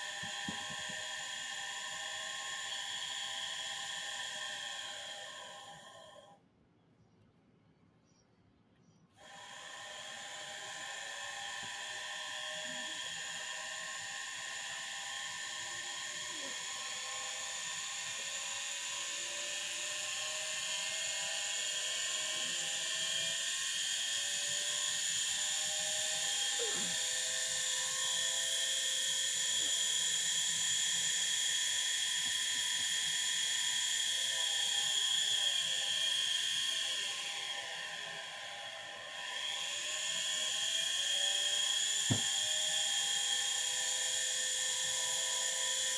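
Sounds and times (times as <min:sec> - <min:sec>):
electric motor whirring whine: 0:00.0 - 0:06.3, 0:09.2 - 0:45.9.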